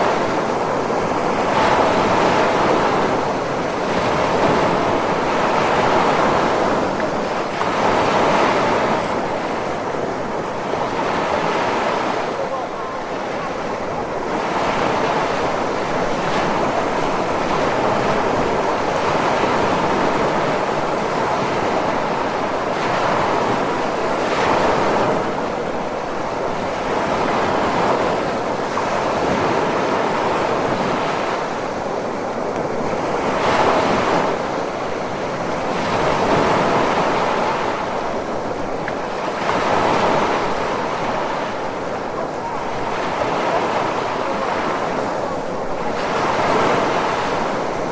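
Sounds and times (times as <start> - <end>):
ocean waves breaking: 0.0 - 47.9.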